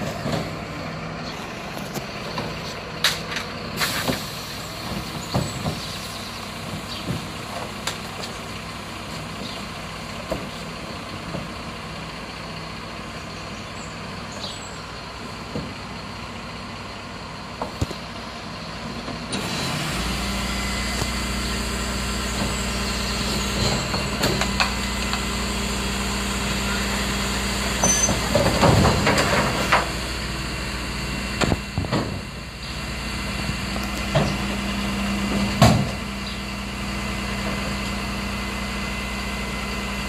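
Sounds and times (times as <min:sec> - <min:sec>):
truck diesel engine idling: 0:00.0 - 0:40.0.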